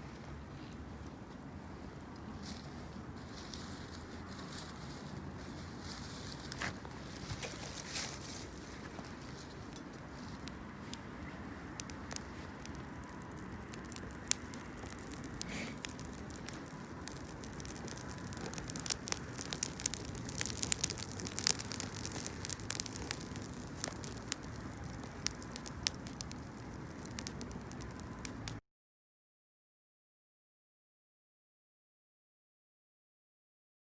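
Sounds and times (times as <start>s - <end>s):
low steady background noise: 0.0s - 28.6s
campfire crackling and popping: 0.1s - 28.6s.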